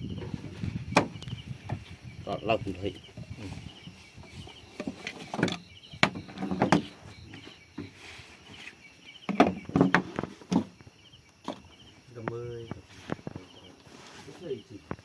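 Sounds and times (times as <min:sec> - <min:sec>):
faint insects chirping: 0:00.0 - 0:15.0.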